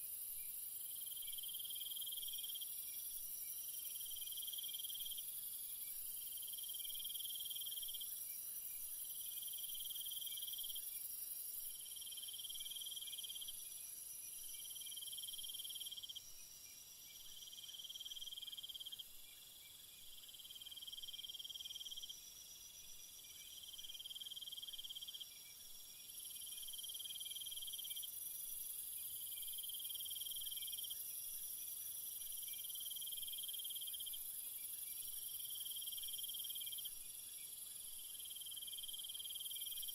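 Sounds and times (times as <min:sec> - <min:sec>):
steady high insect buzz: 0:00.0 - 0:39.9.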